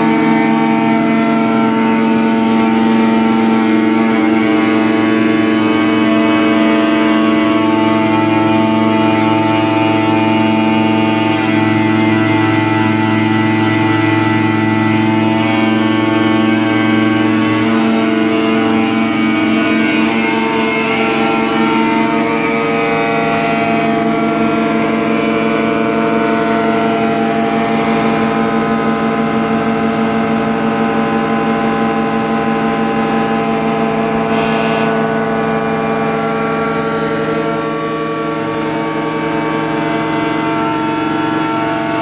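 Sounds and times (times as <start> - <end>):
hydraulic pump whining: 0.0 - 42.0.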